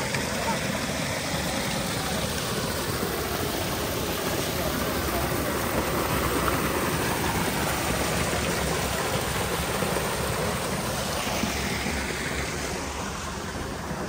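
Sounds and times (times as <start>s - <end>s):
water pouring into stone channel: 0.0s - 14.0s.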